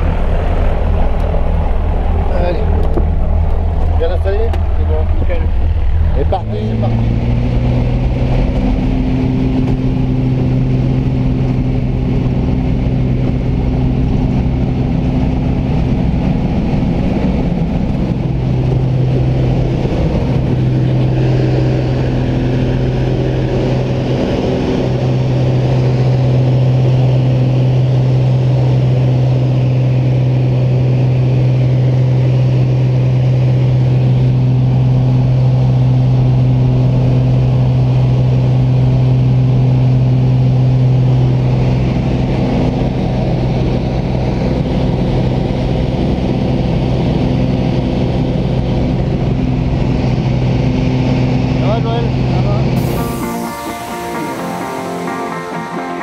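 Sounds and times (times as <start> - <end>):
airflow rumble: 0.0 - 56.0
light aircraft engine drone: 0.0 - 56.0.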